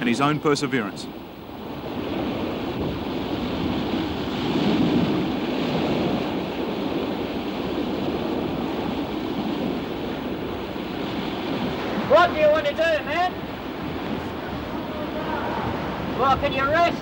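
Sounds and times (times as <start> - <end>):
surf washing against rocks: 0.0 - 17.0.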